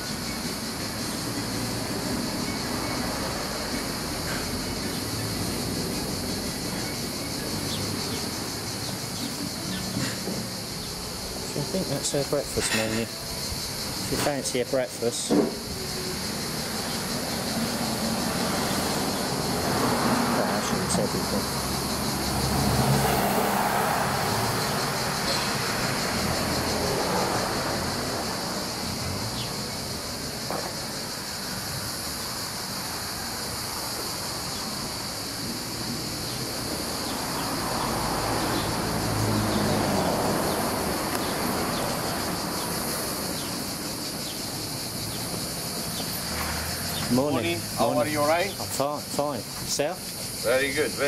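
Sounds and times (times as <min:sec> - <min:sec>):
cars passing: 0:00.0 - 0:51.0
crickets chirring: 0:00.0 - 0:51.0.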